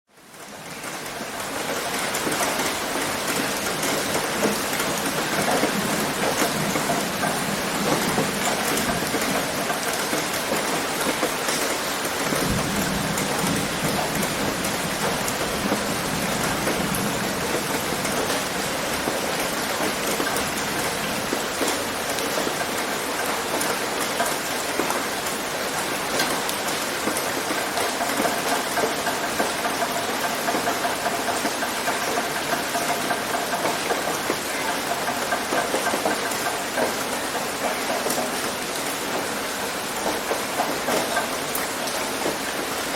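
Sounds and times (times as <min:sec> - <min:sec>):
rain on a tin roof: 0:00.1 - 0:42.9
drips falling from eaves: 0:00.4 - 0:42.9.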